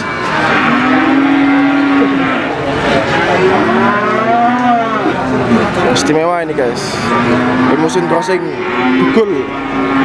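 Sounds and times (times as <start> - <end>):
cattle mooing: 0.0 - 5.3, 6.9 - 10.0.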